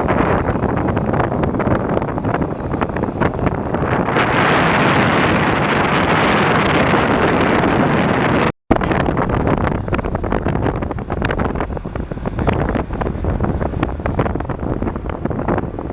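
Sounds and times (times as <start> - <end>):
steady rushing noise: 0.0 - 15.9
wind buffeting microphone: 0.0 - 15.9.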